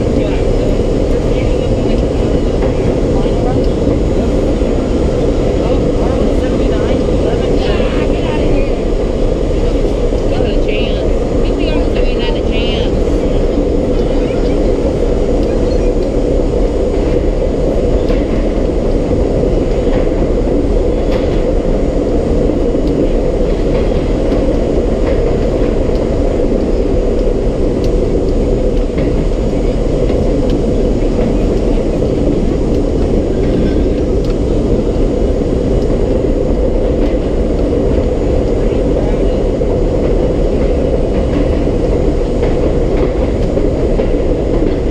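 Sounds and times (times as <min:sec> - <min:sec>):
subway car wheels rumbling on rails: 0:00.0 - 0:44.9.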